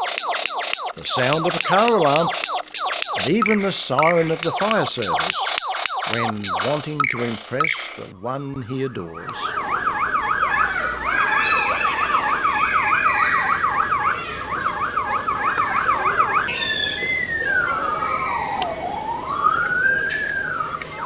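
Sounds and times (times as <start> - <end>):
bird mimicking a siren: 0.0 - 21.0.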